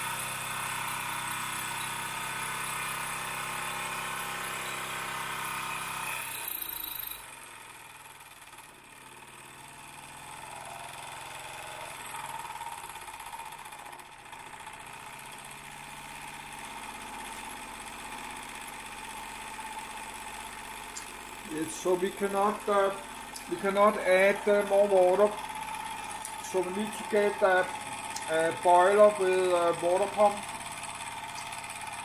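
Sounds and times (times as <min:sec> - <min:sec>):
model steam engine running: 0:00.0 - 0:32.0.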